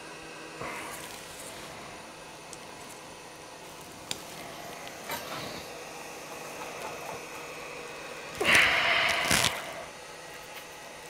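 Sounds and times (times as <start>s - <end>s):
faint equipment hum: 0.0s - 11.0s.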